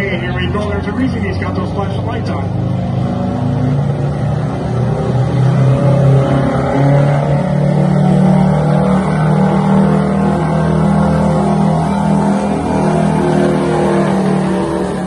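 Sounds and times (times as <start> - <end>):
diesel engine at full throttle: 0.0 - 15.0.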